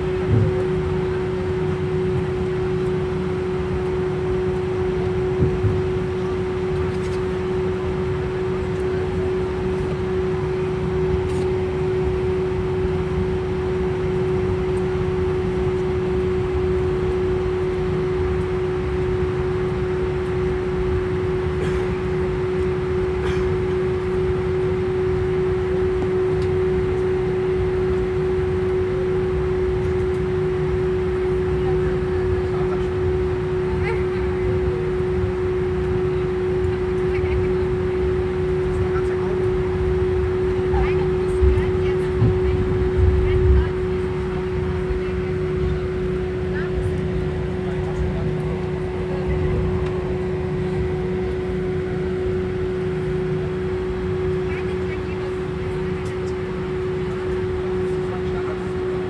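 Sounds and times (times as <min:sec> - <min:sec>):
airliner cabin low rumble: 0:00.0 - 0:59.0
constant humming tone: 0:00.0 - 0:59.0
constant whine: 0:00.0 - 0:59.0.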